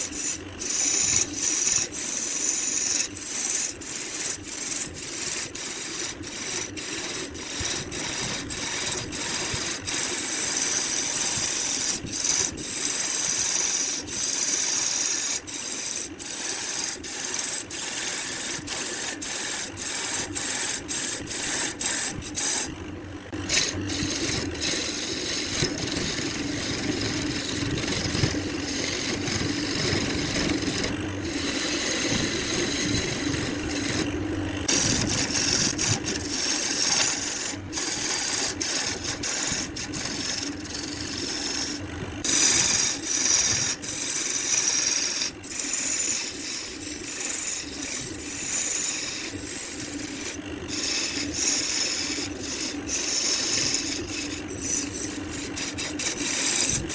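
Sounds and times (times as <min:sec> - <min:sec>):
hand tool scraping wood: 0:00.0 - 0:56.9.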